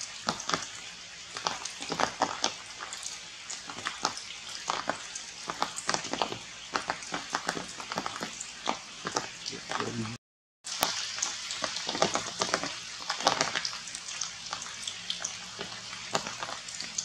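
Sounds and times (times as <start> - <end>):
raindrops dripping onto leaves: 0.0 - 10.1, 10.7 - 17.0.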